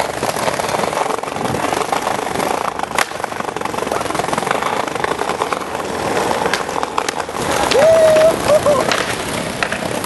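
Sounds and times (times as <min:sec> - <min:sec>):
skateboard wheels rolling on pavement: 0:00.0 - 0:10.0.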